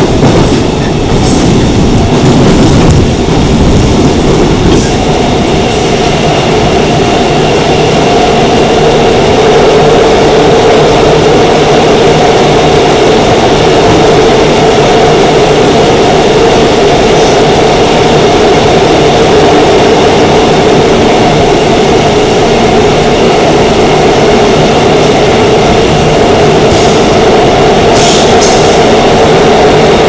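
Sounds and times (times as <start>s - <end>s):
train rumbling through tunnel: 0.0s - 30.0s.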